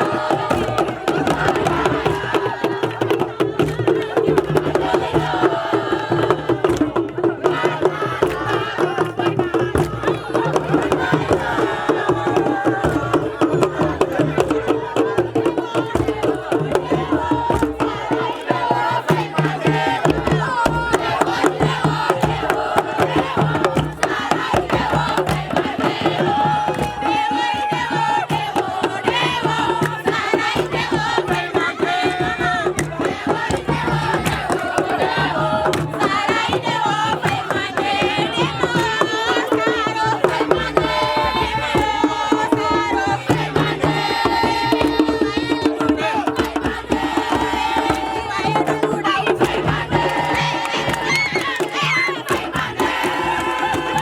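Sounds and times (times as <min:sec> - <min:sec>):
fast hand drumming: 0:00.0 - 0:54.0
voices singing or chanting: 0:00.0 - 0:54.0.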